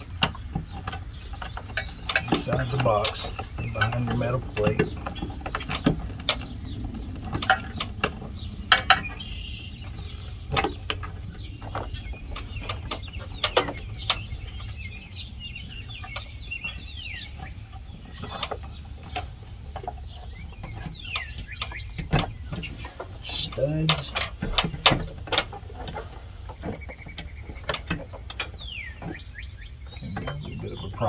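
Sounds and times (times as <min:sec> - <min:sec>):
bird chirps: 0:00.0 - 0:31.0
wind rumble on microphone: 0:00.0 - 0:31.0
wires clicking into electrical box: 0:00.0 - 0:31.0.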